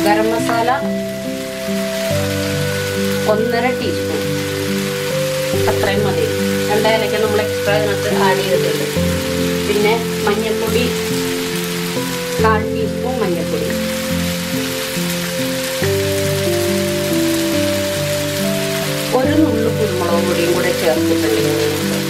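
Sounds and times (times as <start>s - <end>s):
music of slow held notes: 0.0s - 22.0s
vegetables sizzling in a frying pan: 0.0s - 22.0s.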